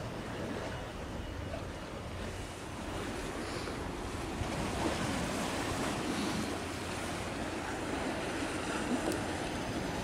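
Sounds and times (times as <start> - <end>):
small waves washing: 0.0 - 10.0
wind: 0.0 - 10.0.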